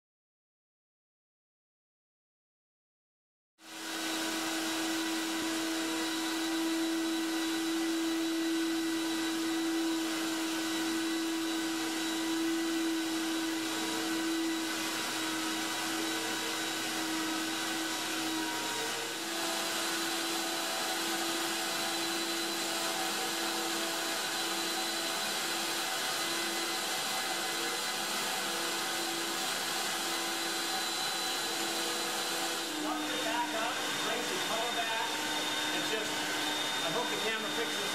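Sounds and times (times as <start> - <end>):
extraction vacuum hissing and whining: 3.6 - 37.9.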